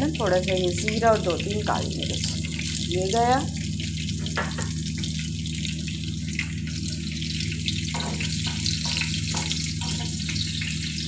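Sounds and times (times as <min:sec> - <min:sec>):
hot oil sizzling: 0:00.0 - 0:11.0
steady low hum: 0:00.0 - 0:11.0.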